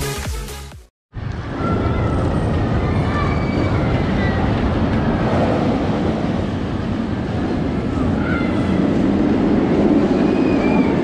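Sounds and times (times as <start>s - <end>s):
roller coaster rumbling on track: 1.2s - 11.0s.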